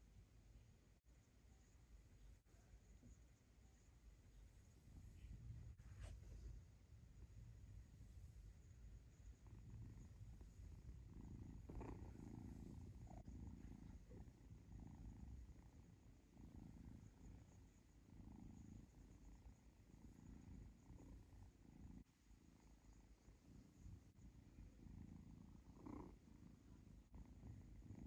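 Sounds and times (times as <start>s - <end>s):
kitten purring: 1.6s - 28.0s.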